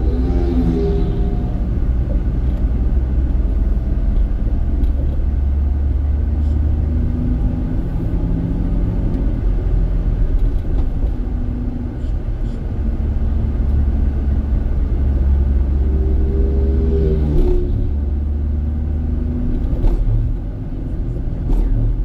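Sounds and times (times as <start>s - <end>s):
faint engine hum: 0.0s - 22.0s
low rumble of moving vehicle: 0.0s - 22.0s.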